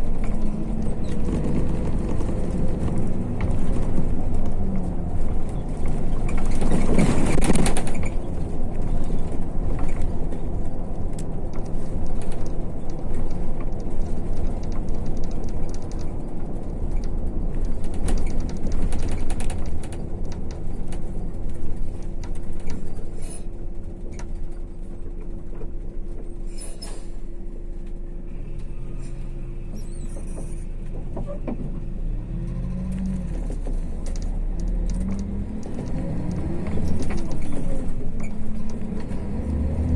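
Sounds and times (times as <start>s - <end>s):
coach engine and road rumble: 0.0s - 39.9s.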